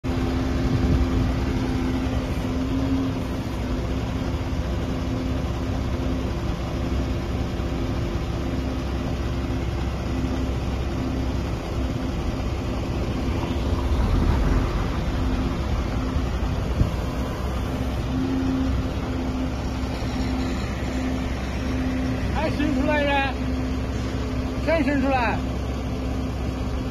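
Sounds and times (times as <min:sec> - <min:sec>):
truck engine running: 0:00.0 - 0:26.9
crane hydraulics humming: 0:00.1 - 0:26.9.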